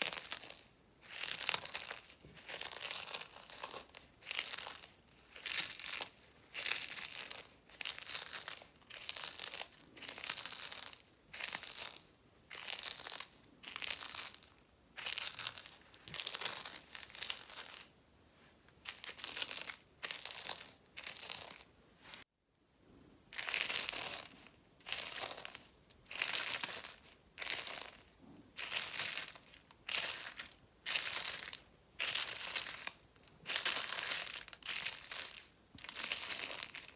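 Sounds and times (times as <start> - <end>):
dried soap crunching: 0.0 - 17.9, 18.8 - 22.2, 23.3 - 36.9.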